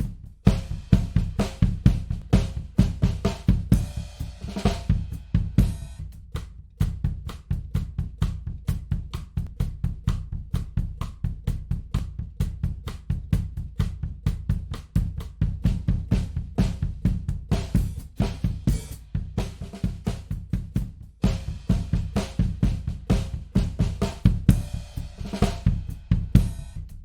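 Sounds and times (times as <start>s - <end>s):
drum kit groove: 0.0s - 27.0s.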